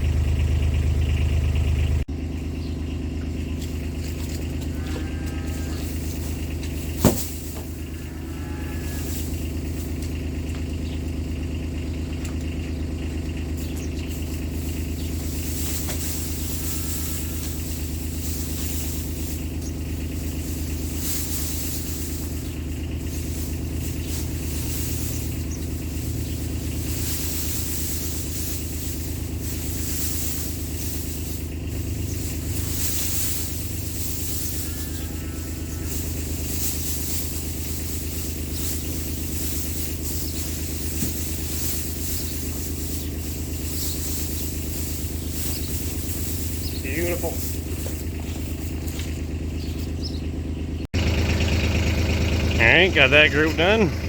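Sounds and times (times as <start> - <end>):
utility vehicle engine running: 0.0 - 54.0.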